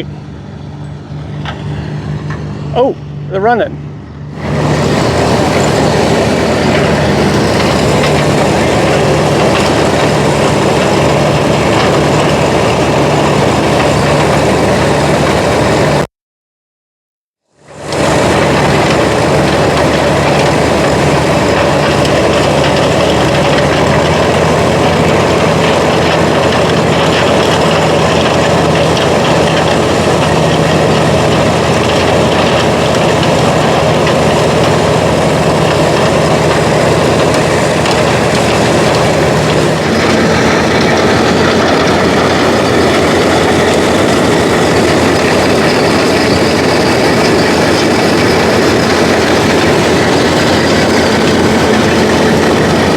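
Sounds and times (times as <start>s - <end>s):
farm machinery engine running: 0.0s - 16.1s, 17.4s - 52.9s
machinery clatter: 0.0s - 16.1s, 17.7s - 52.9s.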